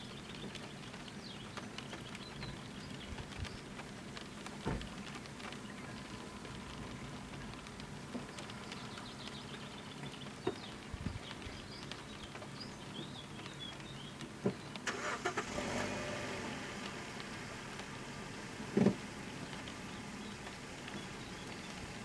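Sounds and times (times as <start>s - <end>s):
rain hiss: 0.0s - 22.0s
raindrops tapping: 0.0s - 22.0s.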